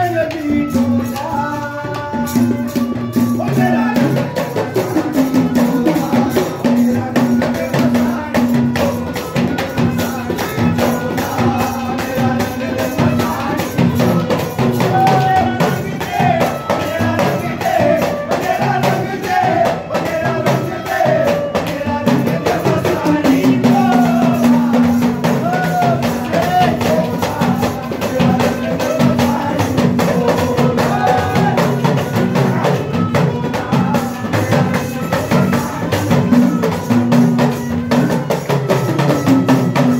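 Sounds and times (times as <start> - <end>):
fast percussion beat: 0.0 - 39.9.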